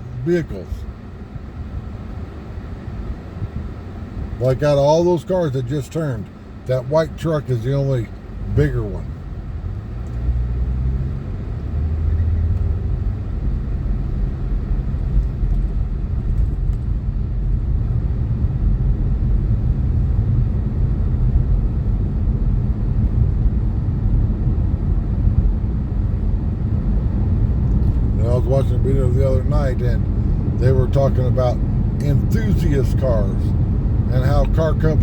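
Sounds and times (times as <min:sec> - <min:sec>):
car interior road and engine noise: 0:00.0 - 0:35.0.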